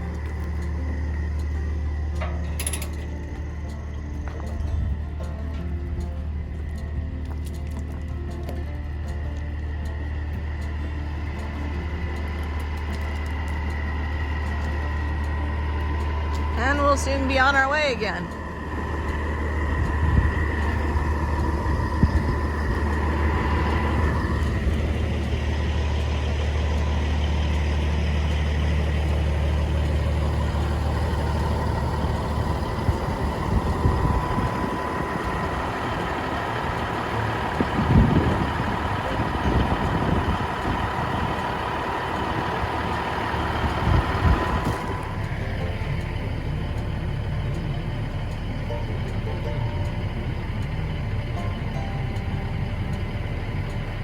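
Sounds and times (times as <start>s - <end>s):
truck engine drone: 0.0s - 54.0s.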